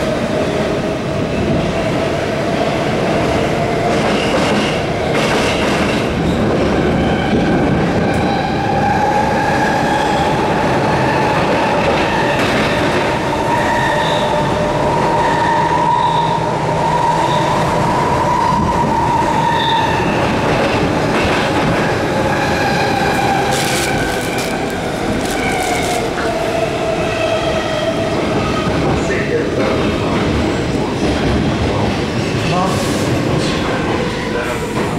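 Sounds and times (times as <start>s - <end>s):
metro train running with whine: 0.0s - 34.9s.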